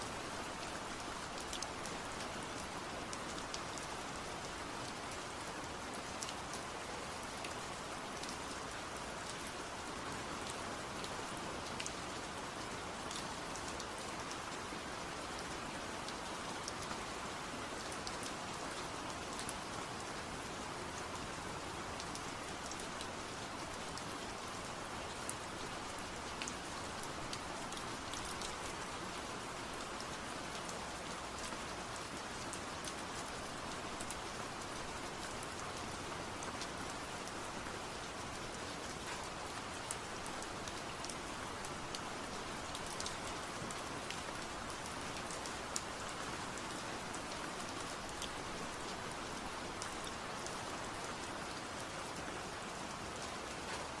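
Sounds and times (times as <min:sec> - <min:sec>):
steady rain hiss: 0:00.0 - 0:54.0
raindrops ticking close by: 0:00.1 - 0:54.0.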